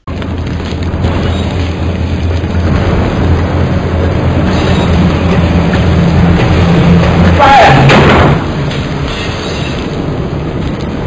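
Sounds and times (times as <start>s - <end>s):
loud low rumbling drone: 0.0s - 11.0s.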